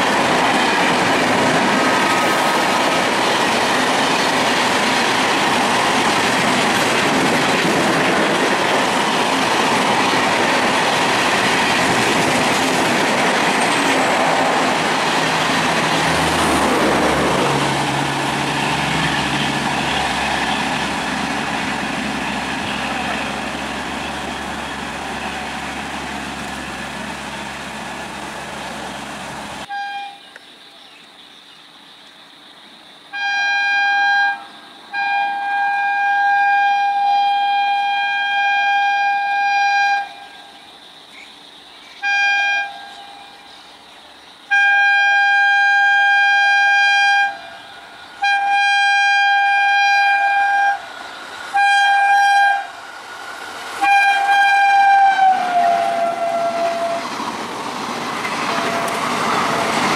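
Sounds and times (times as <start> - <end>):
train wheels rushing on rail: 0.0 - 29.8, 34.1 - 59.9.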